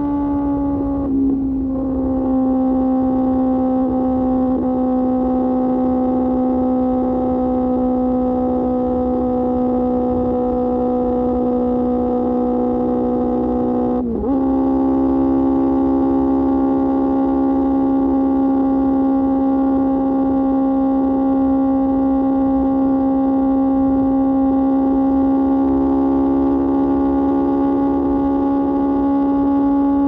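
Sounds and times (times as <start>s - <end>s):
motorcycle engine high-pitched drone: 0.0s - 30.0s.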